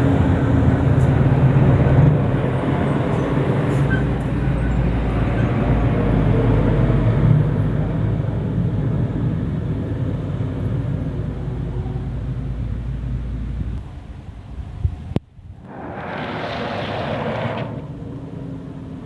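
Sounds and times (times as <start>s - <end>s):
heavy vehicle engine drone: 0.0s - 19.0s.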